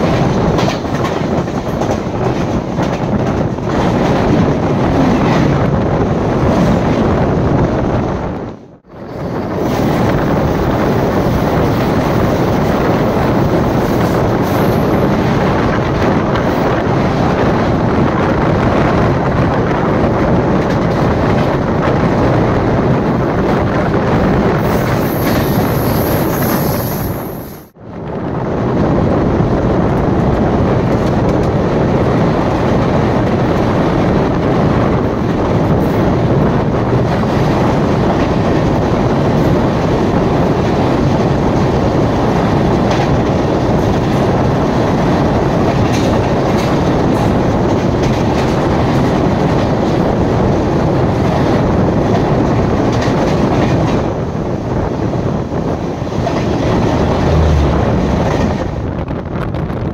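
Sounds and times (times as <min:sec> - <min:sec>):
passing train roar: 0:00.0 - 0:59.9.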